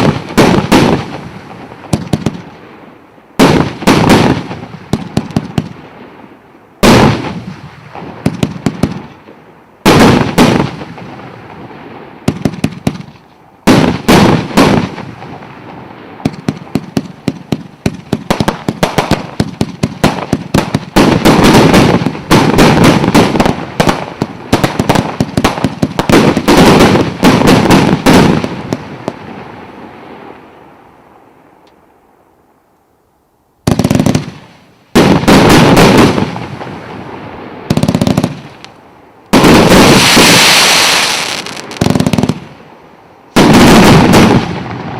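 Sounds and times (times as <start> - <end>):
fireworks bangs and crackle: 0.0 - 30.8, 33.6 - 44.9.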